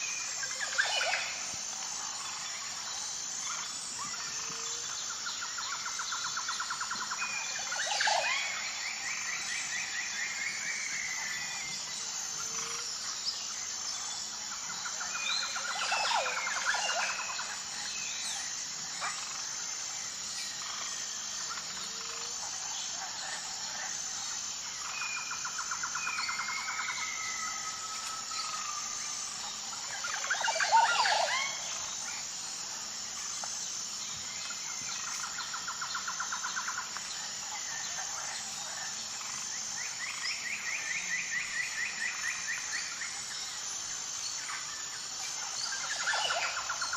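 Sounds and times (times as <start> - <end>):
high insect chorus: 0.0 - 46.9.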